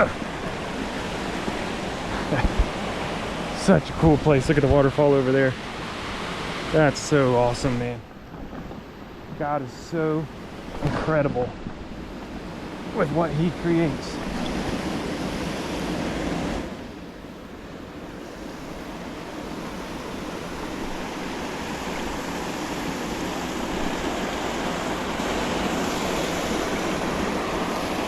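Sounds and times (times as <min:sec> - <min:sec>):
waterfall rushing water: 0:00.0 - 0:08.0, 0:09.4 - 0:28.0.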